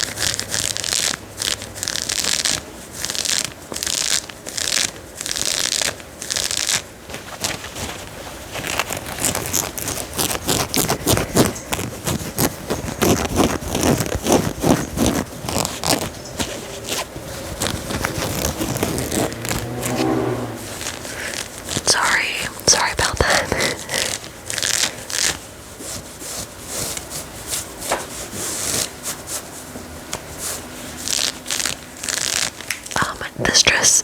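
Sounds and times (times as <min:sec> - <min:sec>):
scratching on denim fabric: 0:00.0 - 0:34.0.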